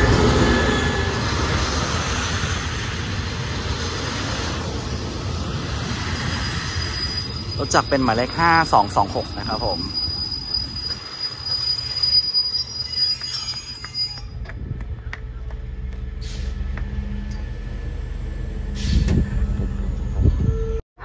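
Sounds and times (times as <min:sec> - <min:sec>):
high-pitched train squeal: 0:00.0 - 0:02.9, 0:03.6 - 0:14.5, 0:16.1 - 0:20.8
train coaches rumbling: 0:00.0 - 0:20.8.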